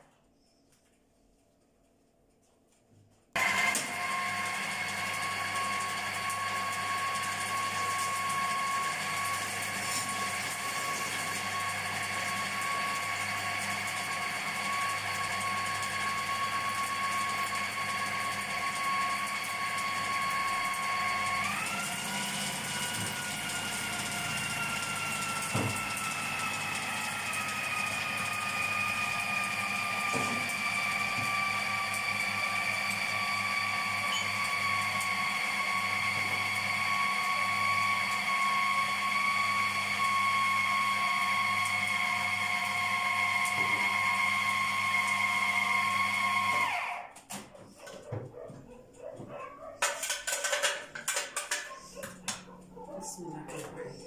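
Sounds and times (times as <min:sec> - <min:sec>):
food processor motor whine: 0:03.4 - 0:47.4.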